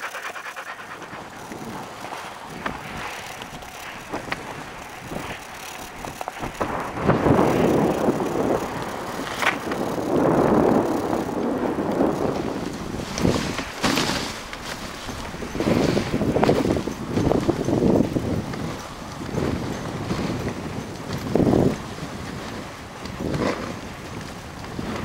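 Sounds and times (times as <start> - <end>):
sled knocking: 0.0 - 25.0
sled runners hissing over snow: 0.0 - 25.0.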